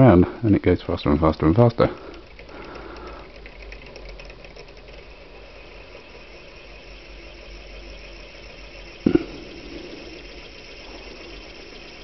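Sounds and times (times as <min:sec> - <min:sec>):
wire scraping rattle on battery: 0:00.7 - 0:12.0
crackle of ticks: 0:01.1 - 0:12.0.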